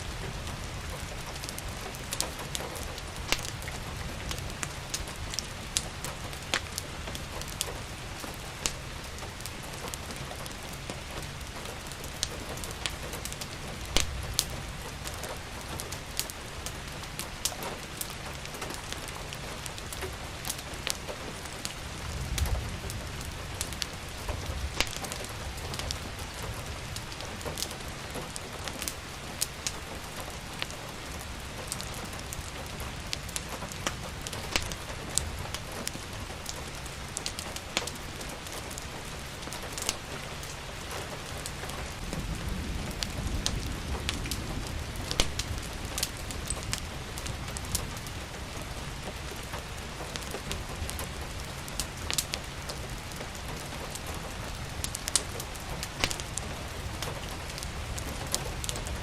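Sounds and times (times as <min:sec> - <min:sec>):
rain hissing: 0:00.0 - 0:59.0
wood fire popping and snapping: 0:00.0 - 0:59.0.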